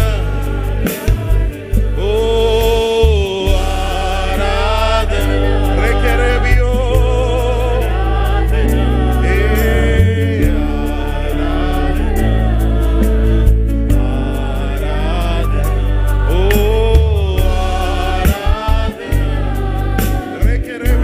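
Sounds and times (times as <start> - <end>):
band with bass and drums: 0.0 - 21.0
voices singing worship music: 0.0 - 21.0.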